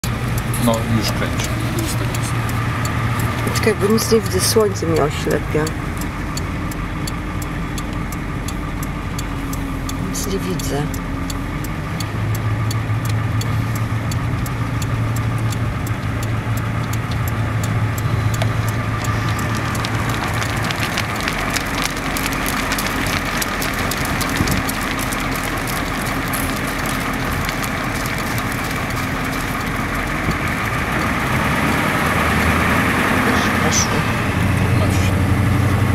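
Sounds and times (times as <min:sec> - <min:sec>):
car engine hum from inside: 0:00.0 - 0:35.9
road noise rushing: 0:00.0 - 0:35.9.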